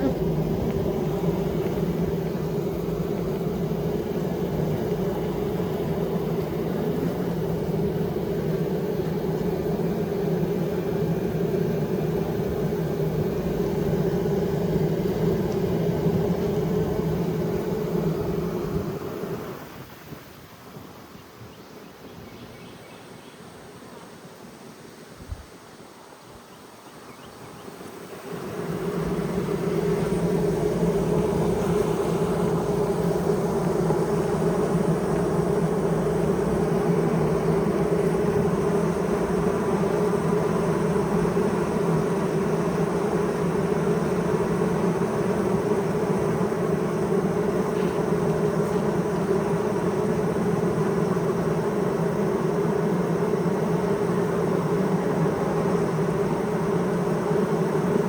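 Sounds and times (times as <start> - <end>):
honeybee colony humming: 0.0 - 20.0, 27.1 - 58.0.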